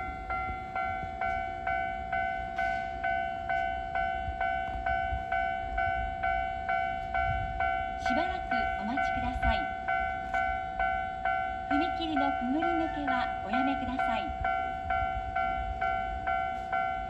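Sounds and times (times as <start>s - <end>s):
level-crossing warning bell ringing: 0.0s - 17.0s.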